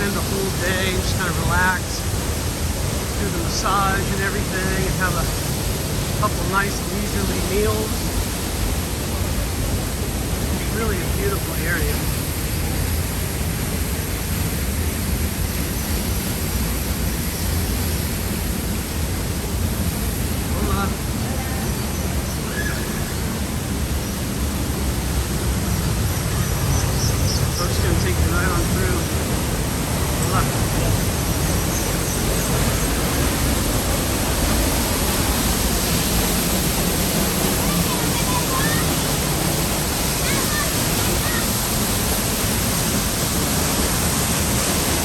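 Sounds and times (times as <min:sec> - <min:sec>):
waterfall pouring: 0:00.0 - 0:45.0.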